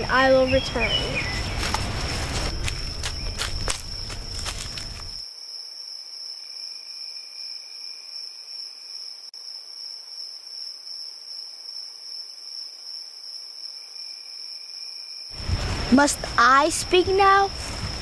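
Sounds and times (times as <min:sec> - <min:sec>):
high-pitched insect chorus: 0:00.2 - 0:18.0.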